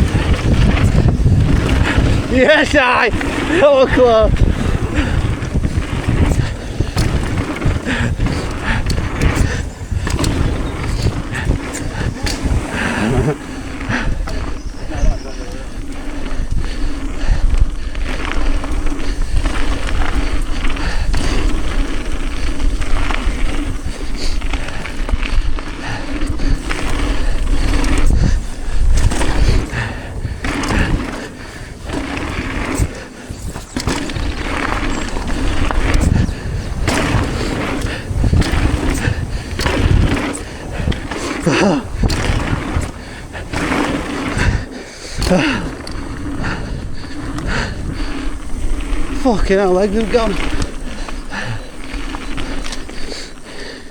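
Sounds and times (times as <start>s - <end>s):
bike rattling over dirt trail: 0.0s - 53.9s
wind buffeting microphone: 0.0s - 53.9s.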